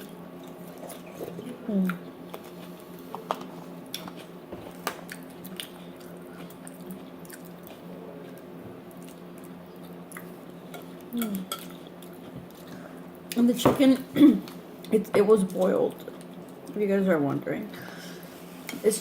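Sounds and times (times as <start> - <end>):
chewing and crunching food: 0.0 - 13.5, 14.5 - 16.8
low steady hum: 0.0 - 19.0.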